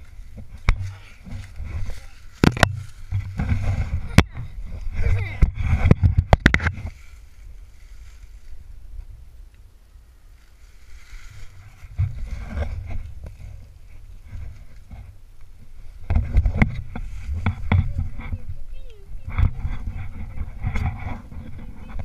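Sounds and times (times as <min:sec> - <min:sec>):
knocks and scrapes: 0:00.0 - 0:08.6, 0:10.4 - 0:22.0
wind rumble: 0:00.0 - 0:22.0.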